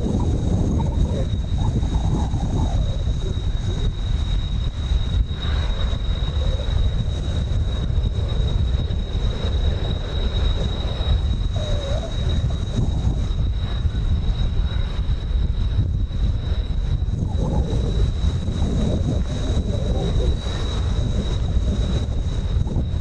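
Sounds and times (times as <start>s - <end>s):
distant jet noise: 0.0s - 23.0s
wind rumble on microphone: 0.0s - 23.0s.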